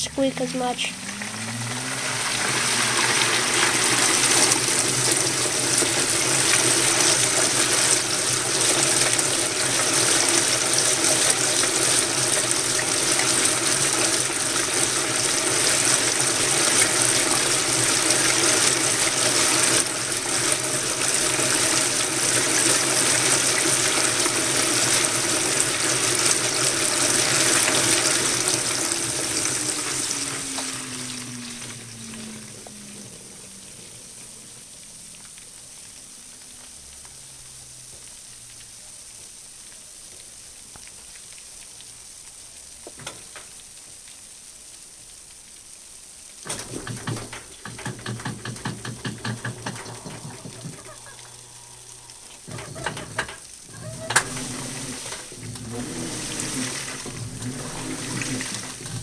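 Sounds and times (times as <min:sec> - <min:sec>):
water and suds rushing: 0:00.0 - 0:36.4, 0:46.4 - 0:59.0
washer motor whine: 0:00.0 - 0:38.9, 0:46.4 - 0:59.0.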